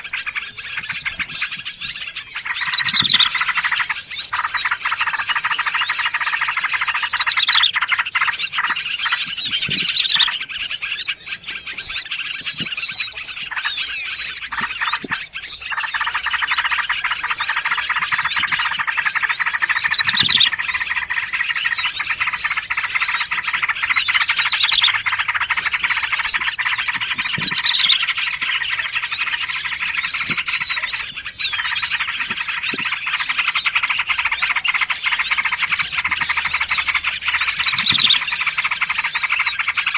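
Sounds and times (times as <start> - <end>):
songbirds chattering and chirping: 0.0 - 39.9.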